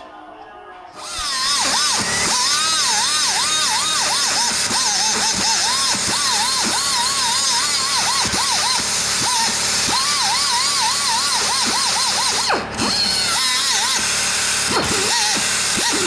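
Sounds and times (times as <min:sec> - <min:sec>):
rotary grinder whining on metal: 0:01.0 - 0:16.0.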